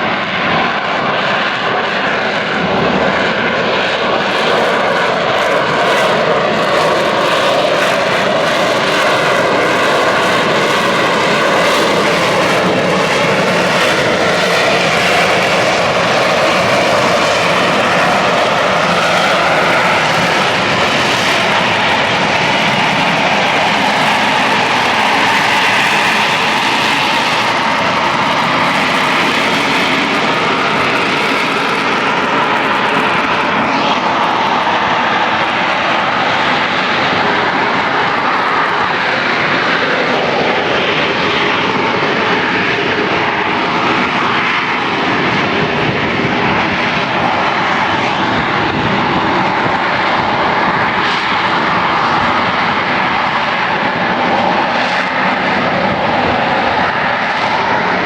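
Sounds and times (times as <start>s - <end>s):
loud steady jet noise: 0.0s - 58.0s.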